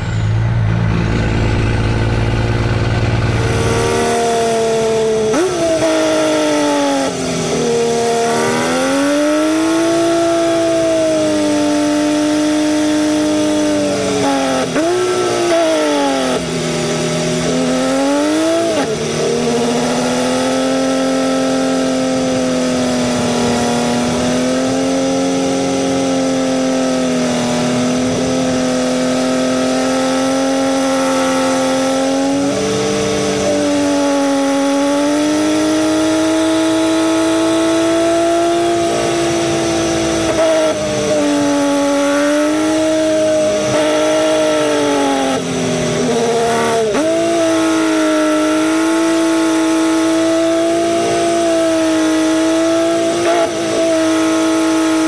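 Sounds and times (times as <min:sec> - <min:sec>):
diesel truck engine droning: 0:00.0 - 0:49.3.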